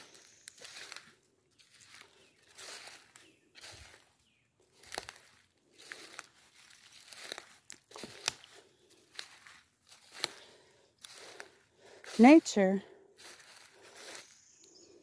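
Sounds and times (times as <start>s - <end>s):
footsteps on wet leaves and mud: 0.0s - 15.0s.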